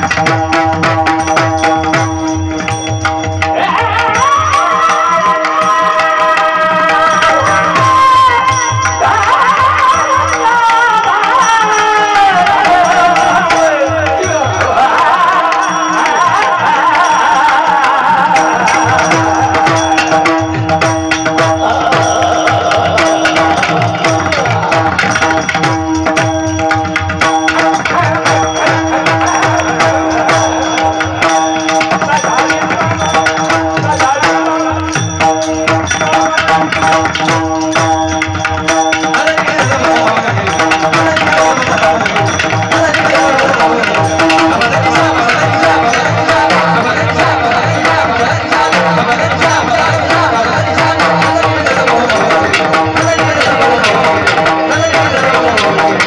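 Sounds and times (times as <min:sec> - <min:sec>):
fast hand drum playing: 0:00.0 - 0:56.0.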